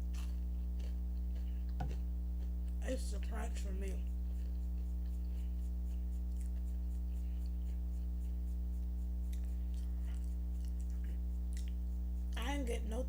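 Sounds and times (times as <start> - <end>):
person chewing crispy food: 0.0 - 2.8, 4.0 - 12.4
low electrical hum: 0.0 - 13.0.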